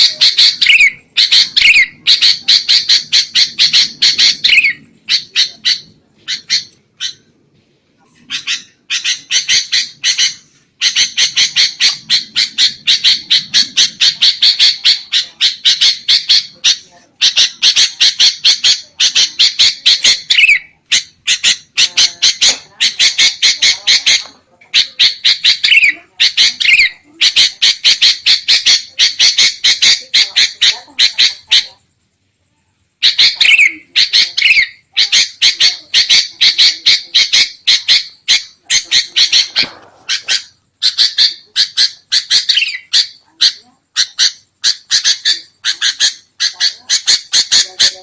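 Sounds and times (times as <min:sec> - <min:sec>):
bulbuls harsh scolding calls: 0:00.0 - 0:07.3, 0:08.3 - 0:31.8, 0:33.0 - 0:48.0.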